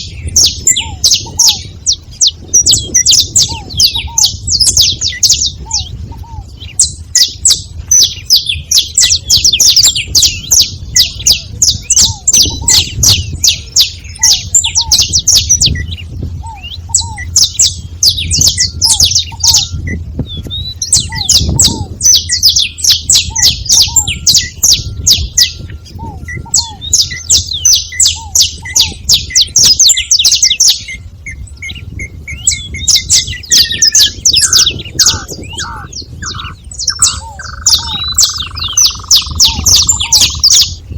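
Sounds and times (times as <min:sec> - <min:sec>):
finches chirping: 0:00.0 - 0:40.9.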